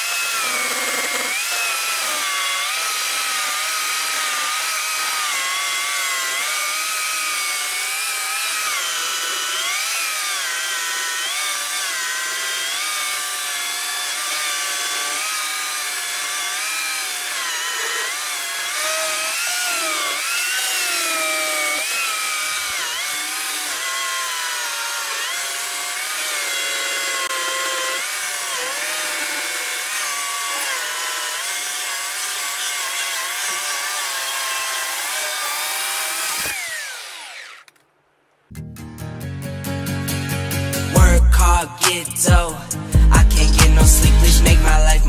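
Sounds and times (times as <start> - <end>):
electric chainsaw cutting log: 0.0 - 38.2, 40.0 - 45.0.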